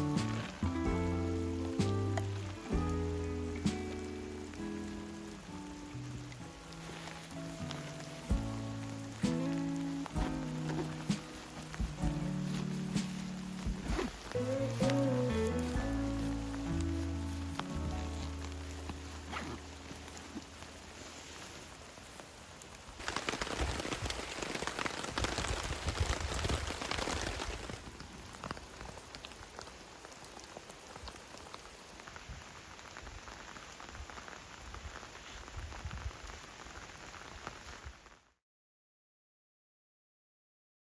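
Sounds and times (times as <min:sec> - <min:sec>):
heavy rain falling: 0:00.0 - 0:38.2.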